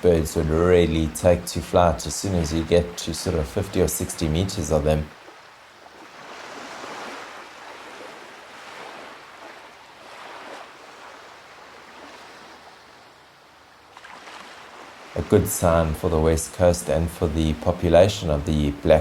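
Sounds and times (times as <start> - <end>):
surf washing onto beach: 0.0 - 19.0.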